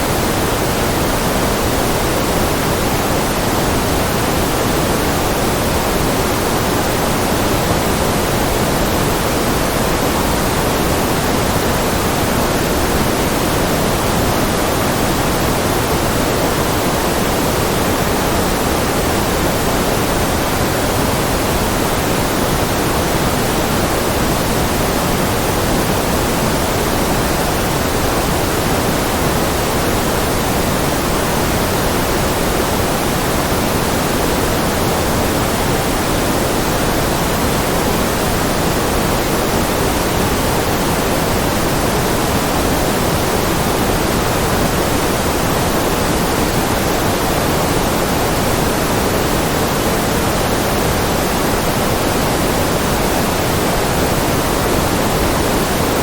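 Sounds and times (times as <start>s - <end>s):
steady white noise: 0.0s - 56.0s.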